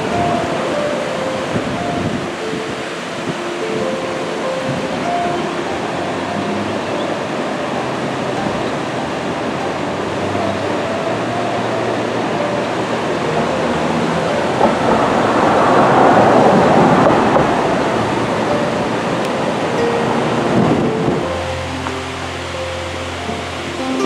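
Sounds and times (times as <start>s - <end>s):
water rushing over a weir: 0.0s - 24.0s.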